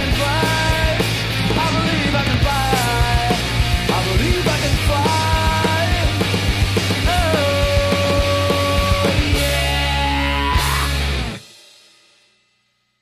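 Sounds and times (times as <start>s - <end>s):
rock music with drums and guitar: 0.0s - 12.4s.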